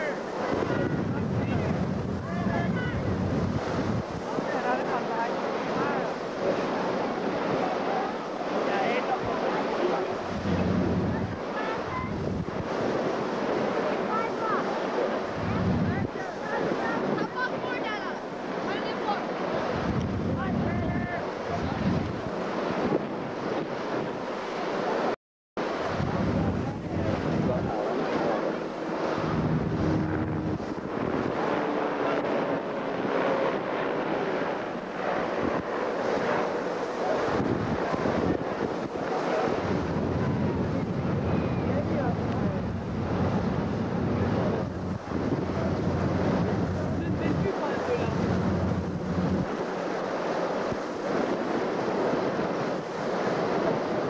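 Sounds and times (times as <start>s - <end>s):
water rushing alongside boat: 0.0s - 54.0s
wind buffeting microphone: 0.0s - 54.0s.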